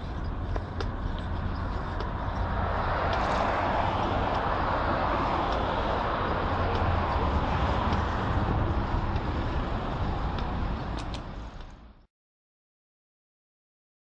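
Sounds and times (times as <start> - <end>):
wind rumble on microphone: 0.0 - 12.0
city traffic: 0.0 - 12.1.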